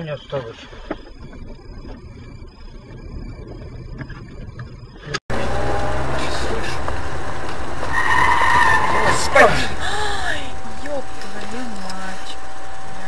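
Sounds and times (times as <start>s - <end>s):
high steady tone: 0.0s - 13.0s
road and engine noise: 0.0s - 13.0s
traffic rumble: 0.0s - 13.0s.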